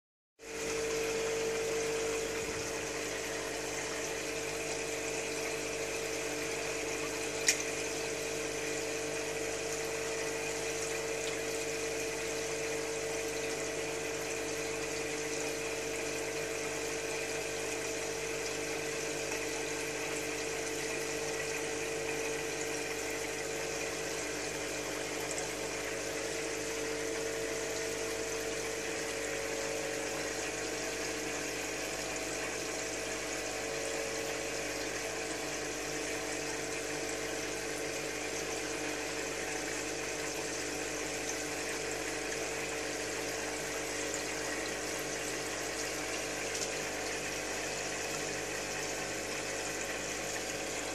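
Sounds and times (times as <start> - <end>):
aquarium equipment hum: 0.4 - 50.9
water bubbling and splashing: 0.5 - 8.6, 17.4 - 50.9.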